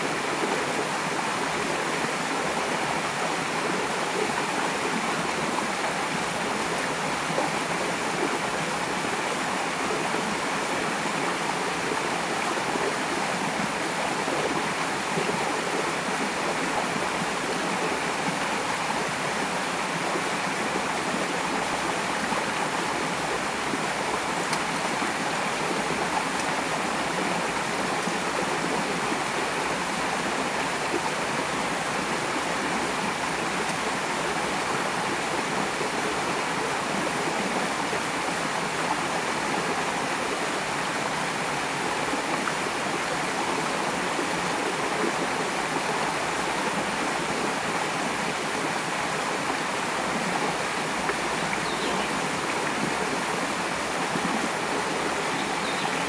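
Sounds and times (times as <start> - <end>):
water flowing over rocks: 0.0 - 56.0.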